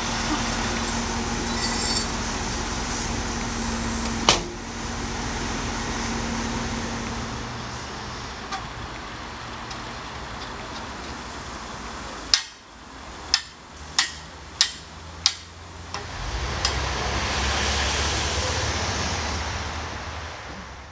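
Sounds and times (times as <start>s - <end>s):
low engine hum: 0.0s - 20.9s
rushing noise with low rumble: 0.0s - 20.9s.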